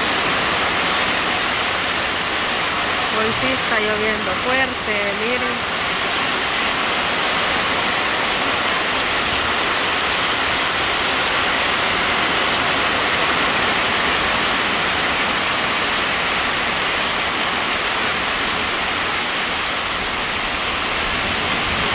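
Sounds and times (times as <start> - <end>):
heavy rain pouring: 0.0 - 21.9
water streaming off roof: 0.0 - 21.9.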